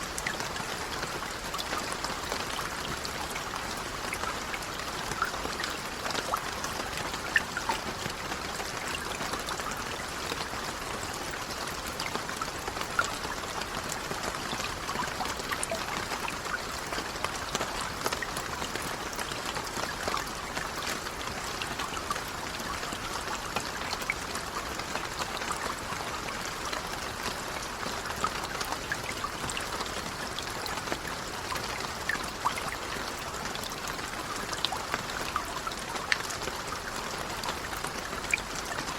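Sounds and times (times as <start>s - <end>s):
light rain patter: 0.0s - 38.9s.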